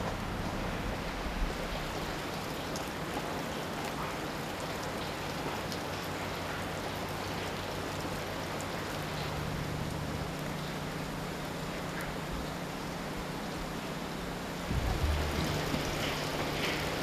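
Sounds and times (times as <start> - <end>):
faint water drips: 0.0 - 14.0
running water rushing: 0.0 - 17.0.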